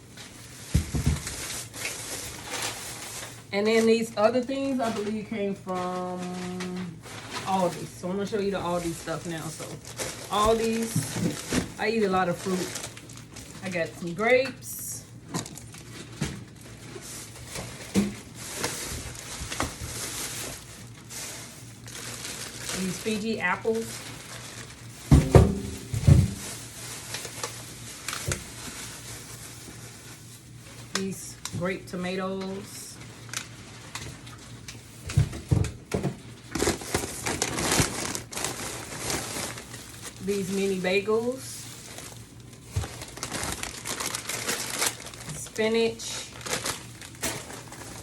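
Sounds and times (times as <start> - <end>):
plastic bags rustling: 0.0 - 48.0.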